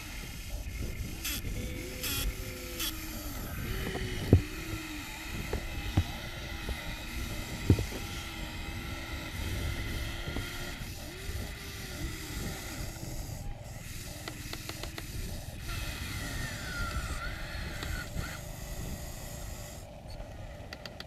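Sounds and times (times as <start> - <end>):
small electric motors whining: 0.0 - 21.0.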